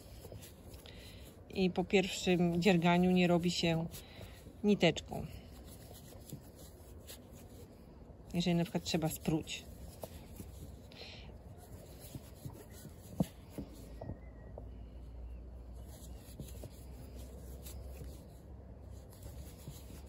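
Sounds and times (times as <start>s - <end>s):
crochet hook rubbing and clicking: 0.0s - 7.7s, 8.3s - 20.0s
low steady hum: 0.0s - 20.0s.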